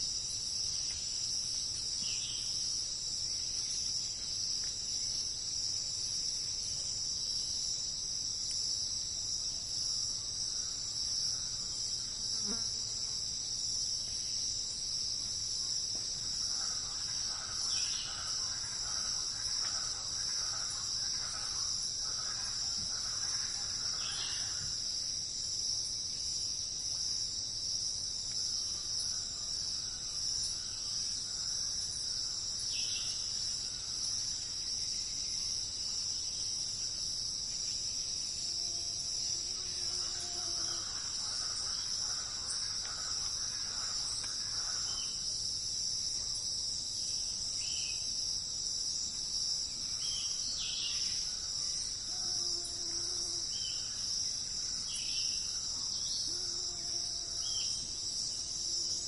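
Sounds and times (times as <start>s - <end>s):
insects chirping chorus: 0.0s - 59.0s.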